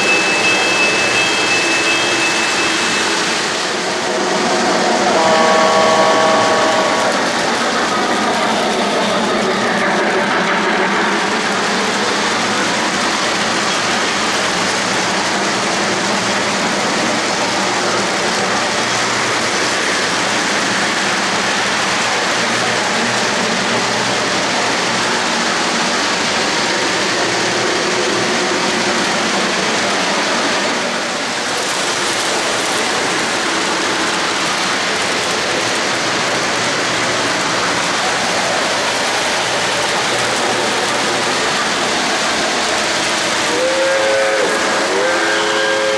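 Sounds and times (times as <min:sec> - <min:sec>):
model train wheels rumbling on rails: 0:00.0 - 0:45.9.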